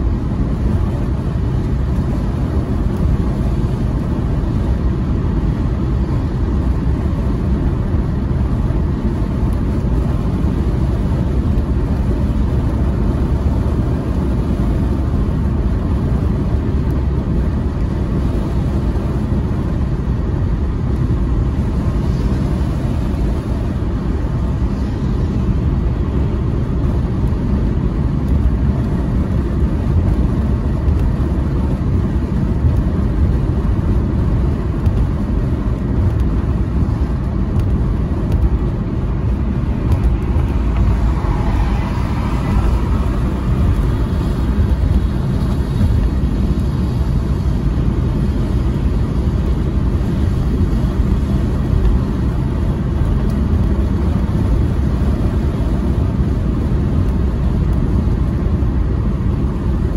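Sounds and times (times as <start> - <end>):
car driving on wet road: 0.0 - 59.9.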